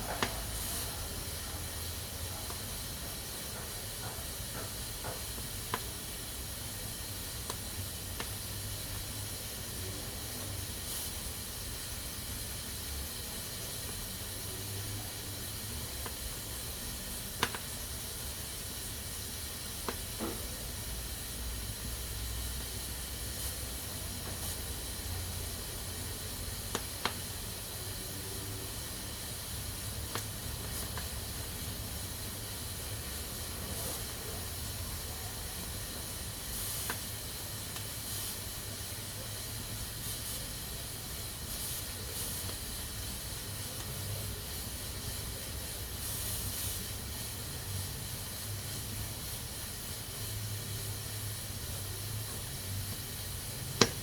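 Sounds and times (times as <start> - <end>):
pressure cooker hissing: 0.0 - 54.0.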